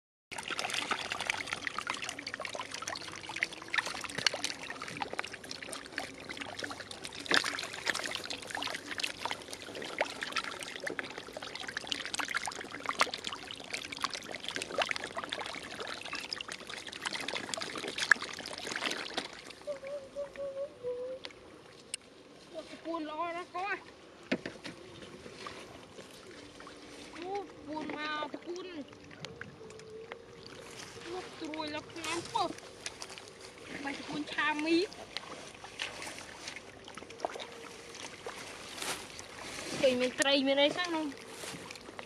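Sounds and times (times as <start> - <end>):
fish splashing: 0.3 - 22.3, 23.6 - 42.0
shallow water trickling: 0.3 - 42.0.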